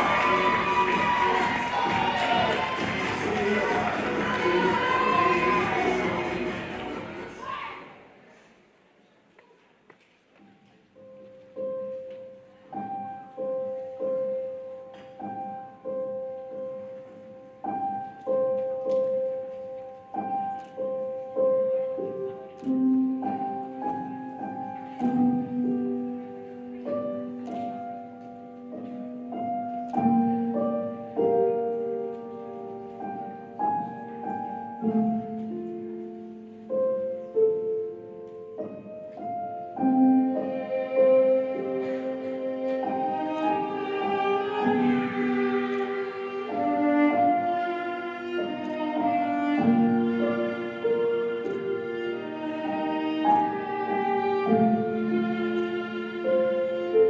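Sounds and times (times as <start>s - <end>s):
slow solo piano: 11.0s - 57.0s.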